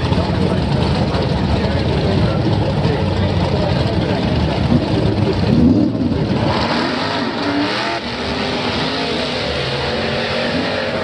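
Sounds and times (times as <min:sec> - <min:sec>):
racing car engines at full throttle: 0:00.0 - 0:11.0.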